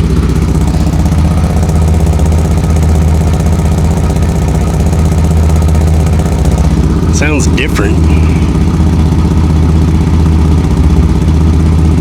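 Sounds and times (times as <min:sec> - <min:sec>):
car engine idling loudly: 0:00.0 - 0:12.0.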